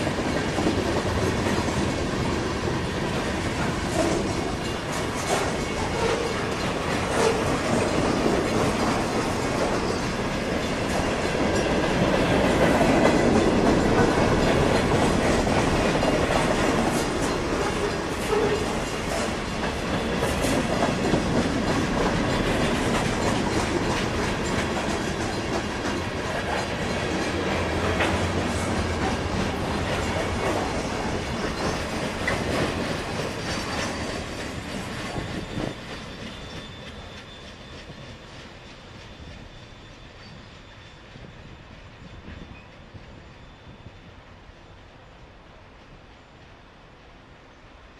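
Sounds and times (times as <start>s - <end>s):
clickety-clack over rail joints: 0.0s - 44.1s
train wheels rumbling on rails: 0.0s - 47.9s.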